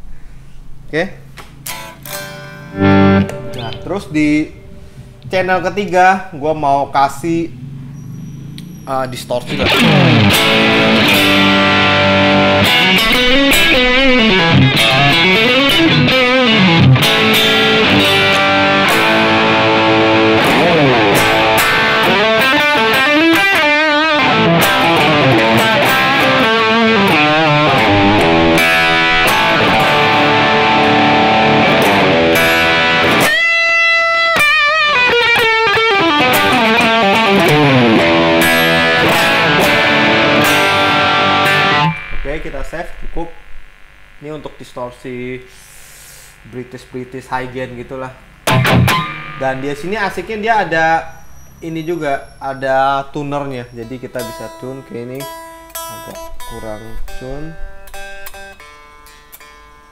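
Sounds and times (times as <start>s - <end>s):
distorted electric guitar solo: 1.5s - 5.6s, 9.3s - 44.6s, 47.5s - 52.6s, 53.4s - 59.8s.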